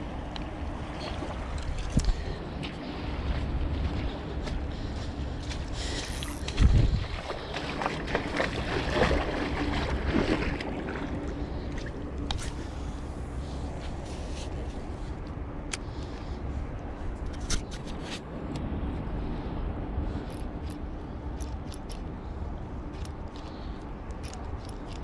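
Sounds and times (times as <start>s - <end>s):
low engine hum: 0.0s - 25.0s
wind buffeting microphone: 0.0s - 25.0s.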